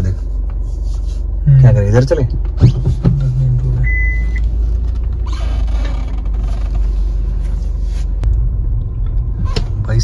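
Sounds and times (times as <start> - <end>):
car engine and tyres droning: 0.0 - 10.0.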